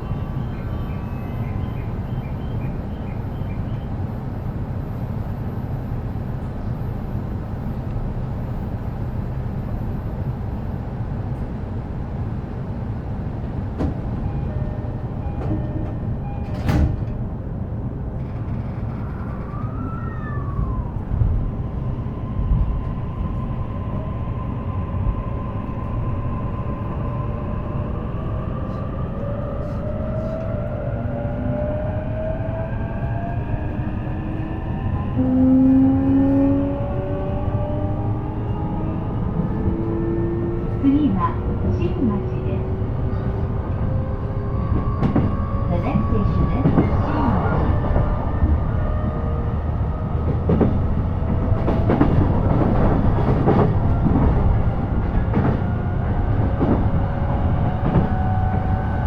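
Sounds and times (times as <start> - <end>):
train cabin hum: 6.0 - 59.0.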